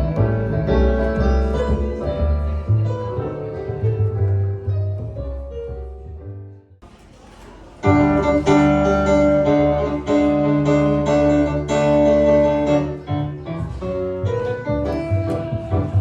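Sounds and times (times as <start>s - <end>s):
piano chords: 0.0s - 6.8s, 7.8s - 16.0s.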